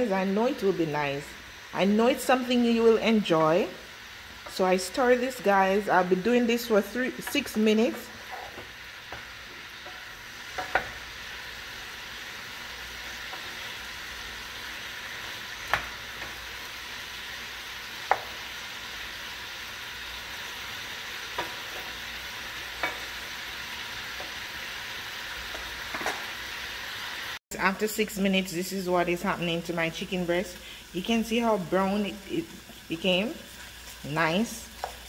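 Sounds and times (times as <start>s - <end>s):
chicken sizzling in a frying pan: 0.0s - 27.4s, 28.3s - 35.0s.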